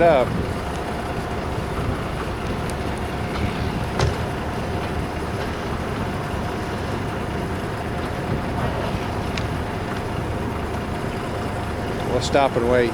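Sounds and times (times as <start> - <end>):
construction machinery rumble: 0.0 - 12.9.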